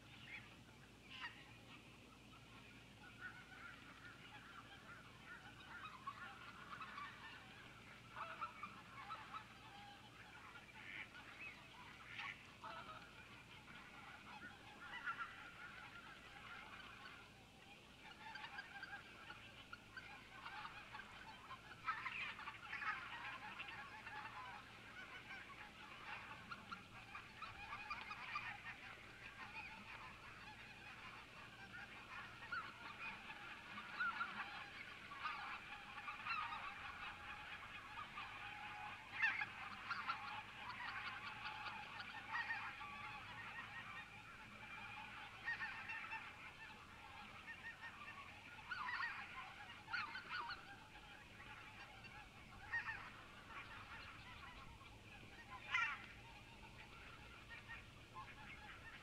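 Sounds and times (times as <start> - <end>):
faint geese honking: 0.0 - 59.0.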